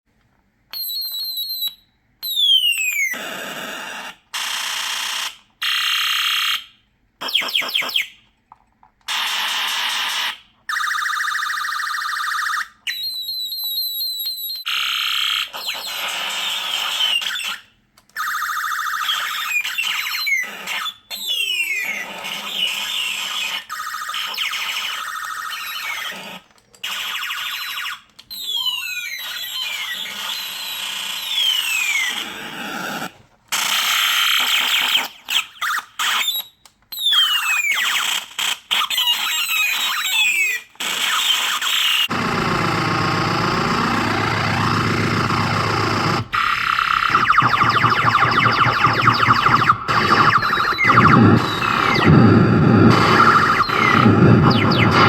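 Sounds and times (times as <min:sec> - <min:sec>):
electronic toy gun sound effects: 0:00.8 - 0:08.2, 0:09.1 - 0:55.0.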